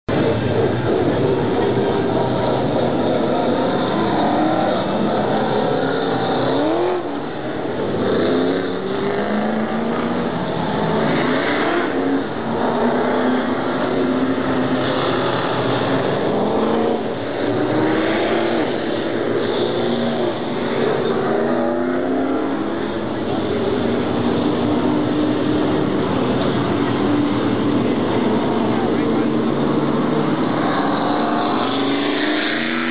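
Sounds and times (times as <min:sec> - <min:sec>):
race cars passing by: 0:00.1 - 0:32.9.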